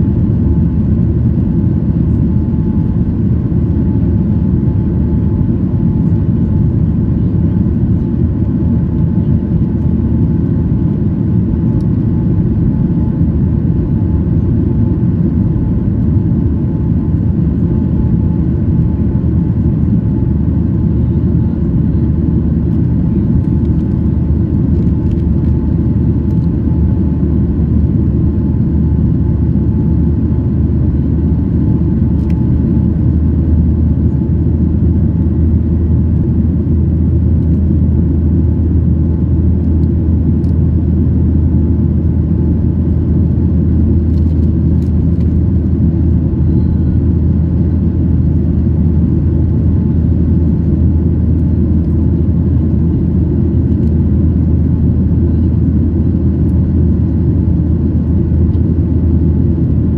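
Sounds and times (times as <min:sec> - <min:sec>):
airplane cabin engine rumble: 0:00.0 - 0:59.9
faint steady whine: 0:00.0 - 0:59.9.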